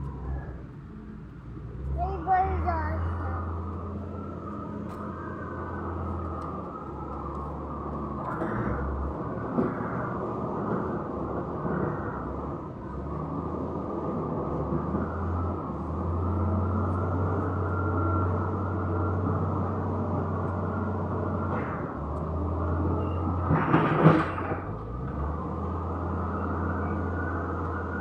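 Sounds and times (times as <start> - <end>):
construction equipment engine rumbling: 0.0 - 28.0.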